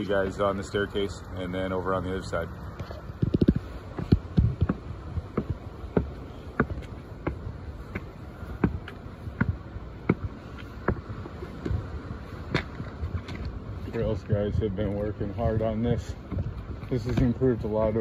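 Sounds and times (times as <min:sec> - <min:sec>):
footsteps climbing stairs: 0:02.8 - 0:18.0.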